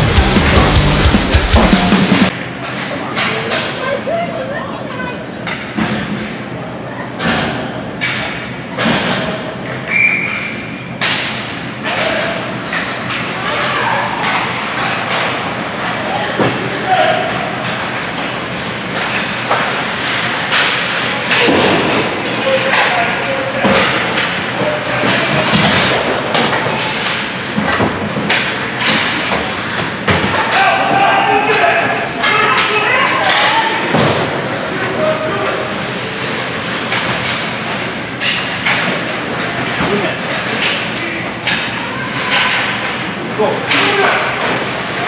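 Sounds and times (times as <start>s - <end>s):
crowd noise in a hall: 0.0s - 45.0s
noisy background: 0.0s - 45.0s.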